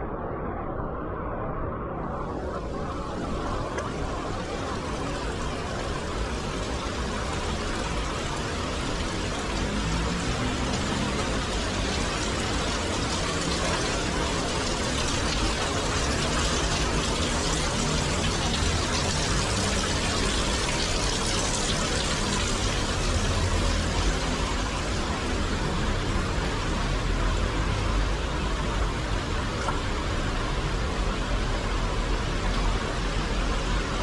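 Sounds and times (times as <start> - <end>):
heavy rain: 0.0 - 34.0
stream rushing over rocks: 2.8 - 34.0.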